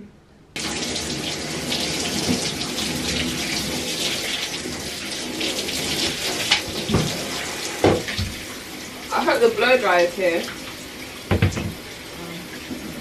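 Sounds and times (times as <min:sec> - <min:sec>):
shower water spraying: 0:00.6 - 0:13.0.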